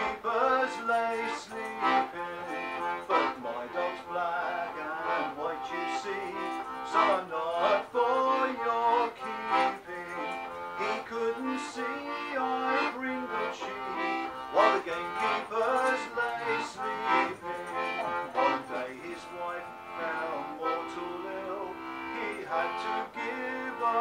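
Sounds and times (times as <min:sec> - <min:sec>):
button accordion folk tune: 0:00.0 - 0:24.0.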